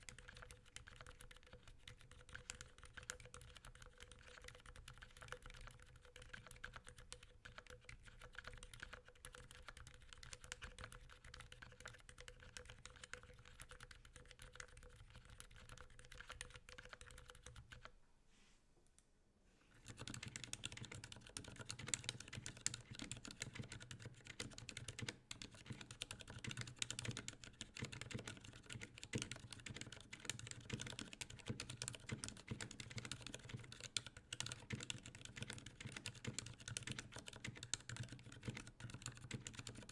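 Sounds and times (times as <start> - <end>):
fast typing with muted clacks: 0.0 - 17.9, 19.8 - 39.9.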